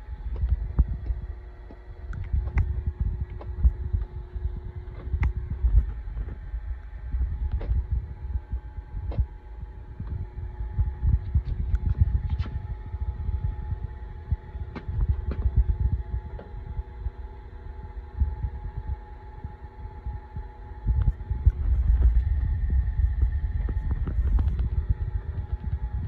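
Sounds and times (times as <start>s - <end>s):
low throbbing rumble: 0.0s - 26.0s
milling machine hum: 0.0s - 26.0s.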